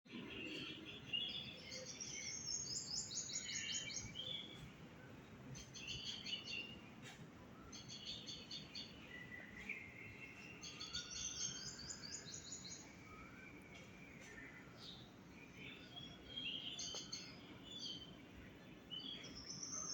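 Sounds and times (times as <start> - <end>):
birds chirping: 0.1 - 19.9
steady low background noise: 0.1 - 19.9.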